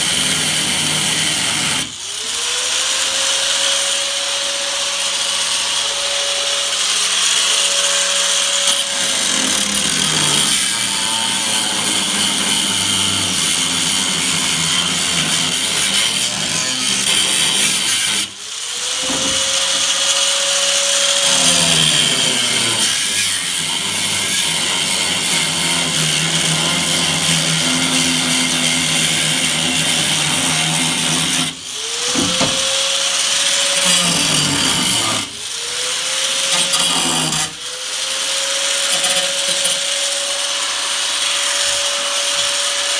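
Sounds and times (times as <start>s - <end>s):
power tool cutting sheet metal: 0.0s - 42.9s.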